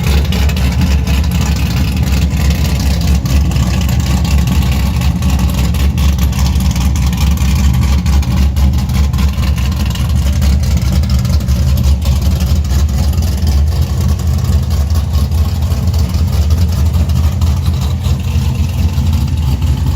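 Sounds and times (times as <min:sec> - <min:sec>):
car engine idling choppily: 0:00.0 - 0:19.9.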